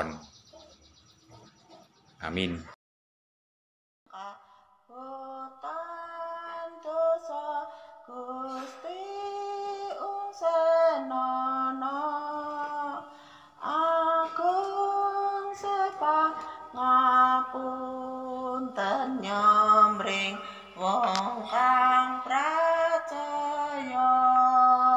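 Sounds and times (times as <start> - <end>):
woman singing a hymn: 4.1 - 24.9.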